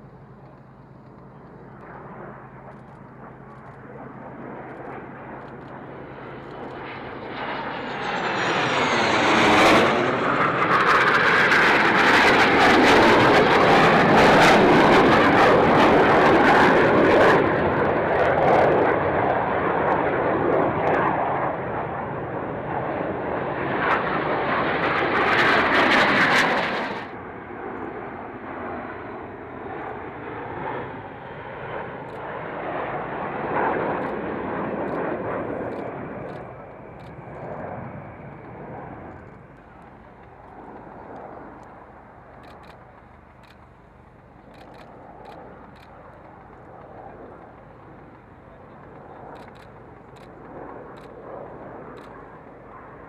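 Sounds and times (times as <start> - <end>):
aircraft engines passing: 0.0 - 53.0.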